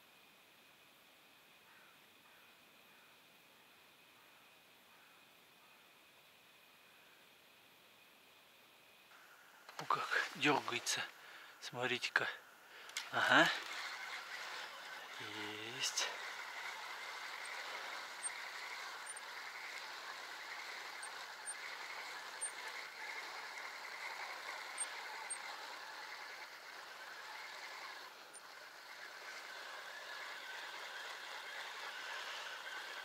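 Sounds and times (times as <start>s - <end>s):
fluttering hiss: 6.5s - 33.0s.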